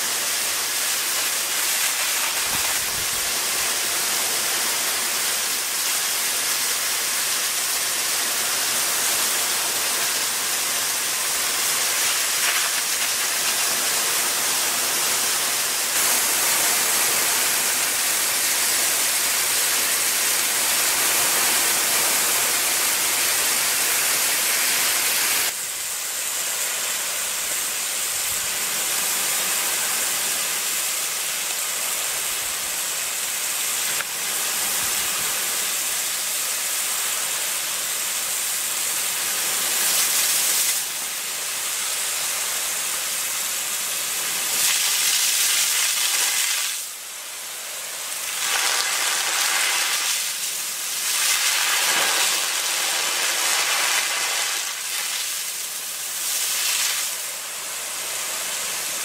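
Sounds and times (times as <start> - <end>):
sprinkler water jet hissing: 0.0 - 59.0.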